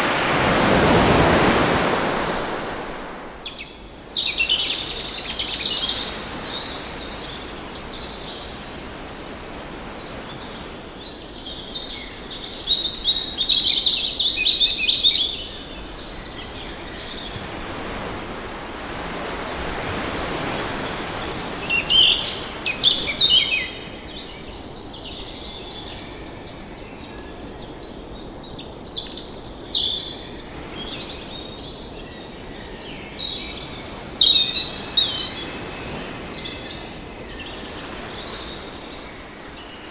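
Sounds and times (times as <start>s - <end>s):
rushing water: 0.0s - 39.9s
birds singing and chirping: 3.4s - 19.4s, 20.0s - 39.9s.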